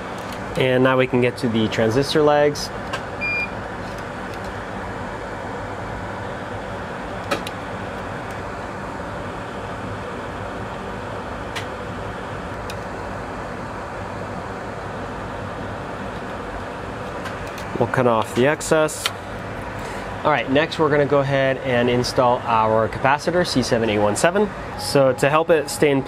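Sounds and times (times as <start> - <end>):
fan hum and hiss: 0.0 - 26.0.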